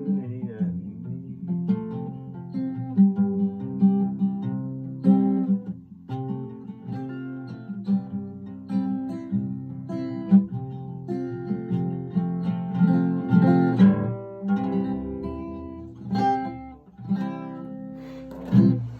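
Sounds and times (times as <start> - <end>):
acoustic guitar strumming and picking: 0.0 - 18.9.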